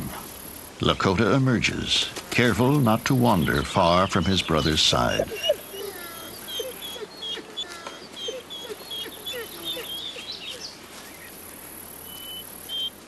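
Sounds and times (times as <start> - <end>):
faint outdoor hiss: 0.0 - 13.0
small birds chirping: 0.3 - 13.0.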